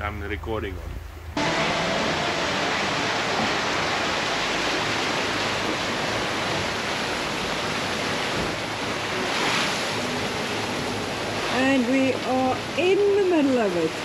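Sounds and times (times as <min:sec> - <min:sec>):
waves breaking against hull: 0:00.2 - 0:14.0
strong wind: 0:01.4 - 0:13.1
heavy rain: 0:01.4 - 0:14.0.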